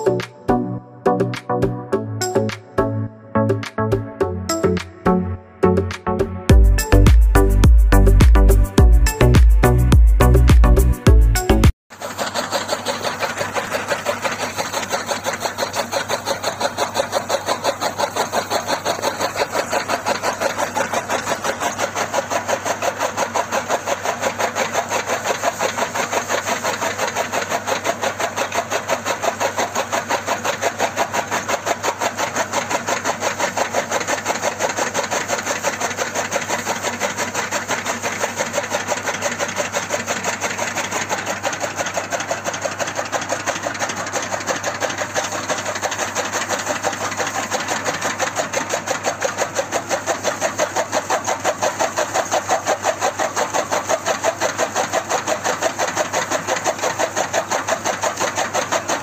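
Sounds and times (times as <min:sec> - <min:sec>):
small motor pulsing: 0:06.5 - 0:59.0.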